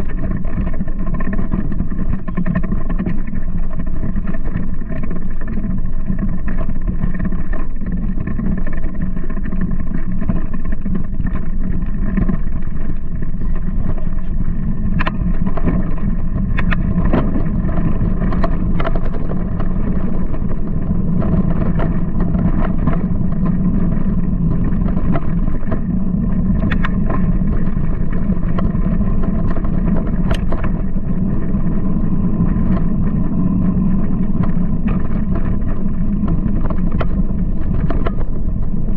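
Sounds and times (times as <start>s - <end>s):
bike rattling over bumps: 0.0s - 38.9s
bike tyres rumbling on dirt: 0.0s - 38.9s
wind on microphone: 0.0s - 38.9s.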